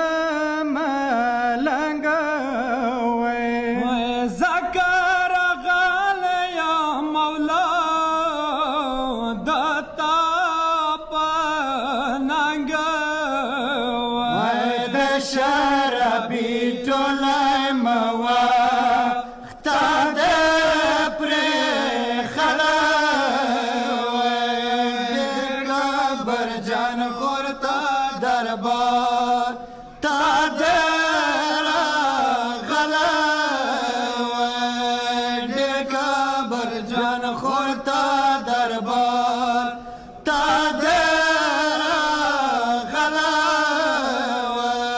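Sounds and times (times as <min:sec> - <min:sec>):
men chanting in unison: 0:00.0 - 0:44.9.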